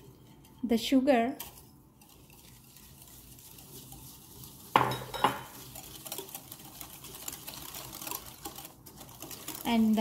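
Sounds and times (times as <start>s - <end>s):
whisk striking glass bowl: 0.0s - 10.0s
whisk tapping and scraping glass: 0.0s - 10.0s.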